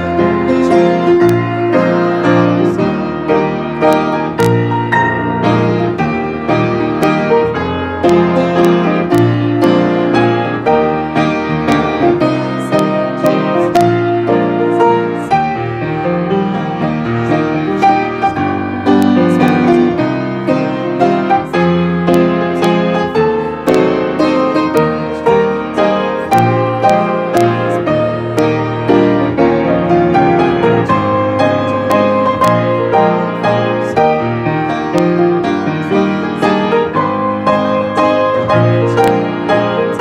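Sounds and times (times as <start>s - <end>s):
piano chord accompaniment: 0.0s - 40.0s.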